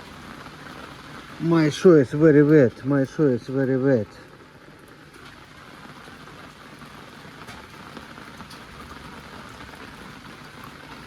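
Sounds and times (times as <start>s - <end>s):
rain falling steadily: 0.0s - 11.0s
raindrops ticking: 0.0s - 11.0s.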